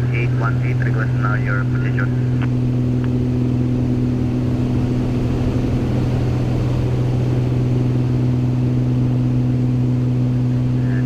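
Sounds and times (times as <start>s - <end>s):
propeller plane engines droning: 0.0s - 11.0s.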